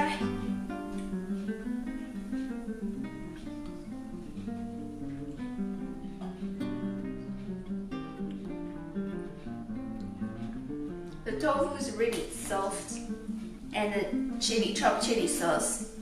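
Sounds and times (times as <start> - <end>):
plucked instrumental music: 0.0 - 15.2.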